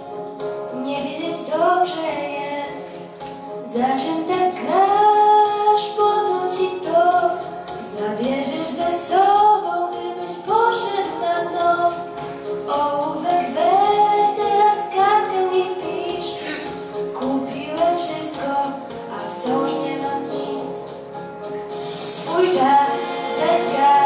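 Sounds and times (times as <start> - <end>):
recorded backing track: 0.0 - 24.0
girl singing into microphone: 0.7 - 21.0, 22.1 - 24.0.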